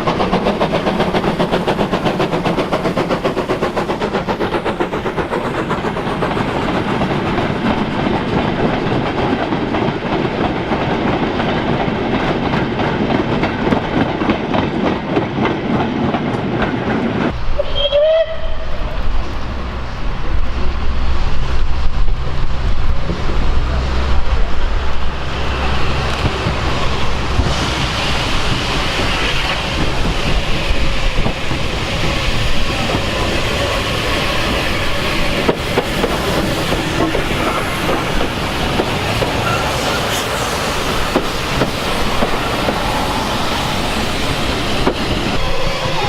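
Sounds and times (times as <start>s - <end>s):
train rumbling on track: 0.0s - 46.0s.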